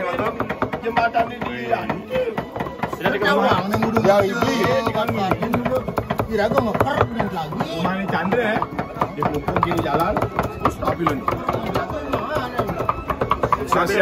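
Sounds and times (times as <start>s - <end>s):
cleavers chopping on wooden blocks: 0.0s - 14.0s.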